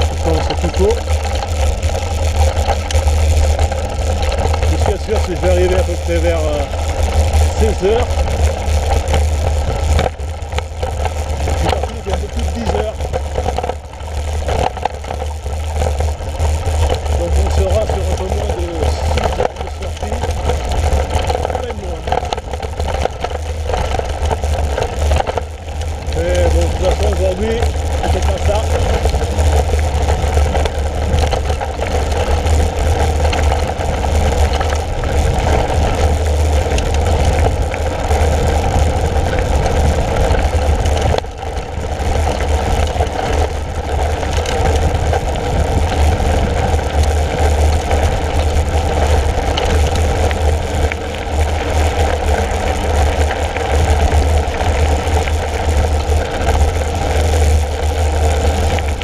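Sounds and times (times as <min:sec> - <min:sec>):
bike tyres on gravel: 0:00.0 - 0:59.0
wind rumbling on microphone: 0:00.0 - 0:59.0.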